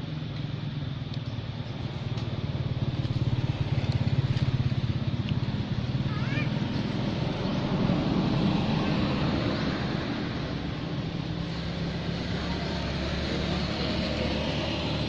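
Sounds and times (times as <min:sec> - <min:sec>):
motor engine running: 0:00.0 - 0:15.0.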